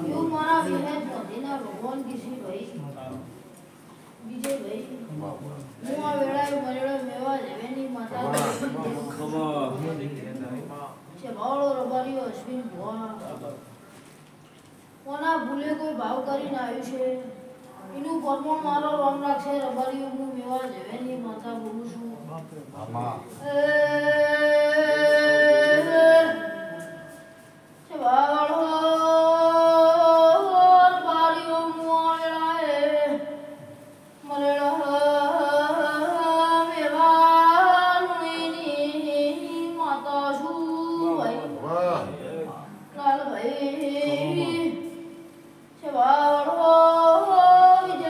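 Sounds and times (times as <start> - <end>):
boy singing unaccompanied: 0.0 - 2.9, 4.2 - 9.6, 11.2 - 13.3, 15.0 - 22.4, 23.3 - 42.0, 42.9 - 48.0.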